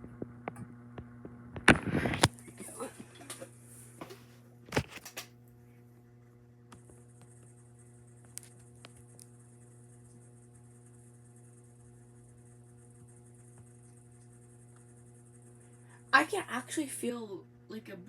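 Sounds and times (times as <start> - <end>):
ceiling fan motor hum: 0.0 - 18.0.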